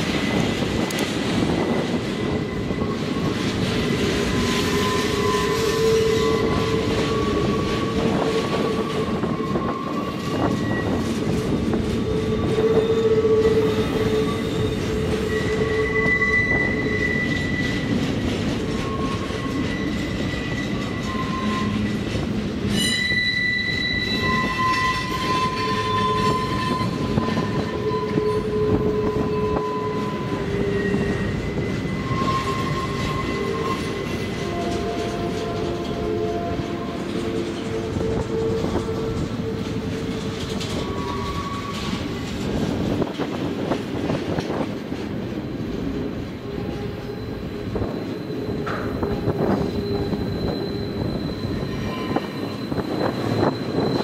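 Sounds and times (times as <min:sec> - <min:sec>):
train wheels rumbling on rail: 0:00.0 - 0:54.0
wheel flanges squealing: 0:00.1 - 0:54.0.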